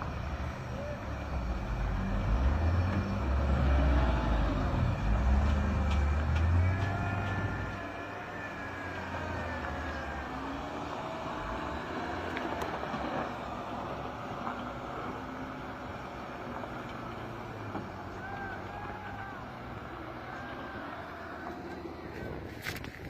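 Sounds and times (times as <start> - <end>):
heavy truck engine under load: 0.0 - 23.0.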